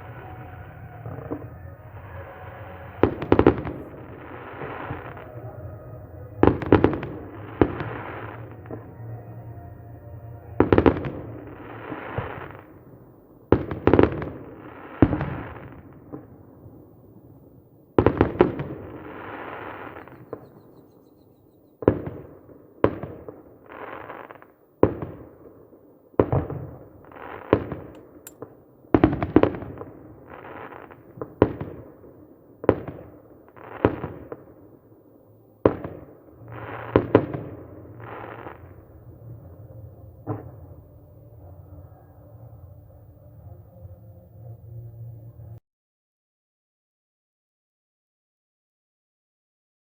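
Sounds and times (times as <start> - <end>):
rumble and crackle of fireworks: 0.0 - 43.7.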